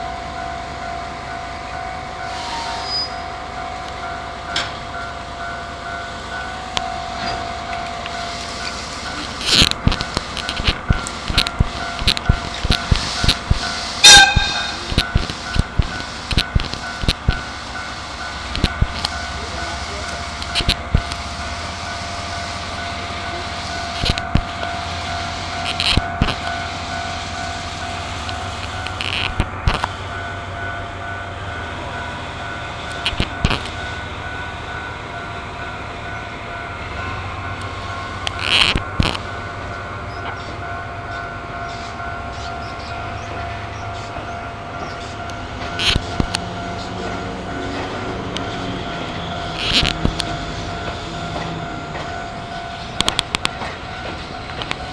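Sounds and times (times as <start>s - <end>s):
crossing alarm steady tone: 0.0s - 54.9s
low train rumble: 0.0s - 54.9s
train wheels clacking over rails: 0.0s - 54.9s.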